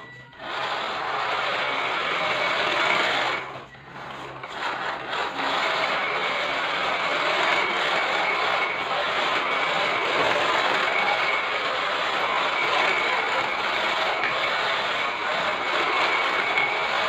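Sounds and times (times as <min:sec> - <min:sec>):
toy truck motor running: 0:00.0 - 0:17.0.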